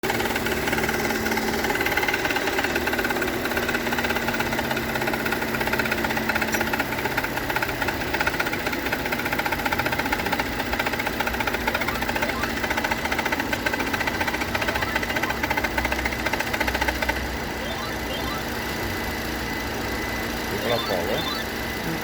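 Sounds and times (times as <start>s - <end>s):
car engine running: 0.0s - 22.0s
fast even engine clatter: 0.0s - 22.0s.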